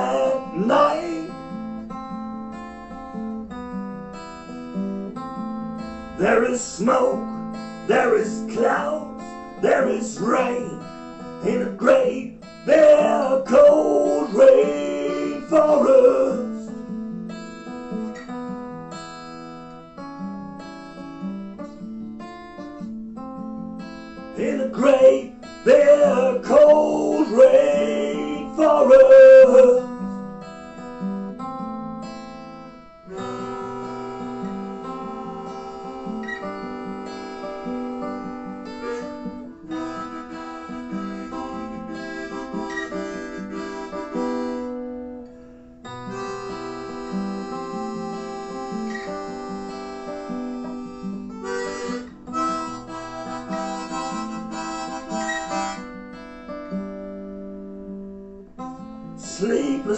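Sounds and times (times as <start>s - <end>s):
acoustic guitars playing: 0.0s - 59.9s.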